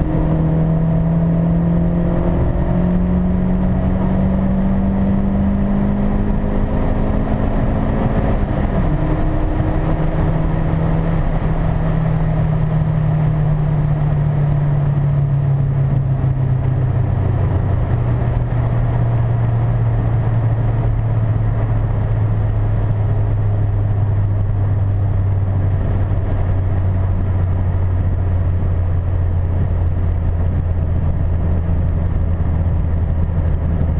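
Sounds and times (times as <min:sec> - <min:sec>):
road rumble: 0:00.0 - 0:33.9.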